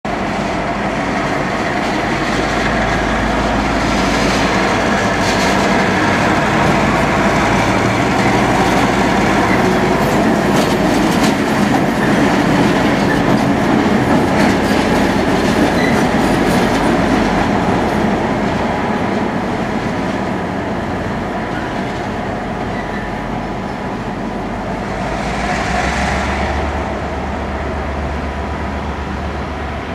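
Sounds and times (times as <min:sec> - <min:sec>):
train wheels clattering over rails: 0:00.1 - 0:27.4
locomotive engine drone: 0:00.1 - 0:29.9.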